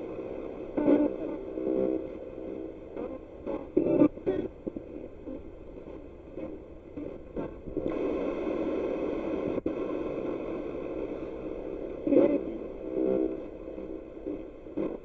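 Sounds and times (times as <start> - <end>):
radio static: 0.0 - 15.0.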